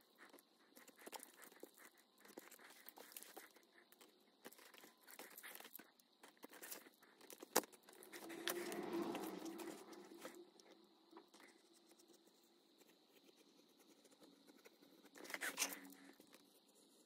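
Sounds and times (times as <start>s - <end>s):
scraping and rustling of craft materials: 0.0s - 17.0s.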